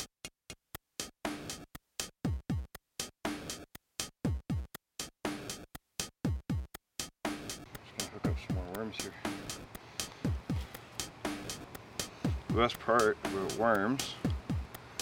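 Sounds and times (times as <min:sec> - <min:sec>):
electronic music with beat: 0:00.0 - 0:15.0.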